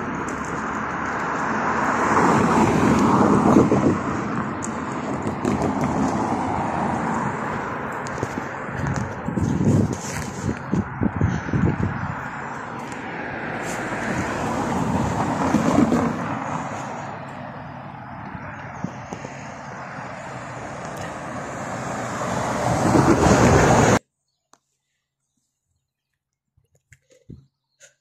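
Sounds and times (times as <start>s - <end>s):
road traffic passing: 0.0s - 24.1s.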